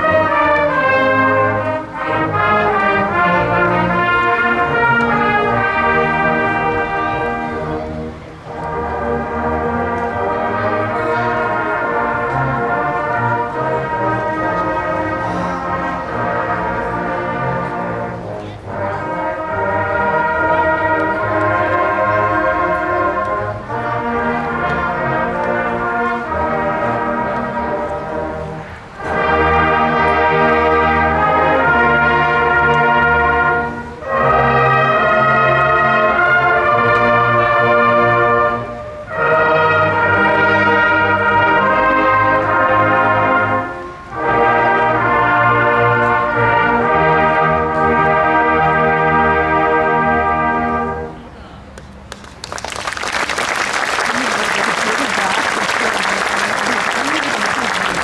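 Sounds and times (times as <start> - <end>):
brass choir playing chords: 0.0 - 51.4, 54.0 - 58.0.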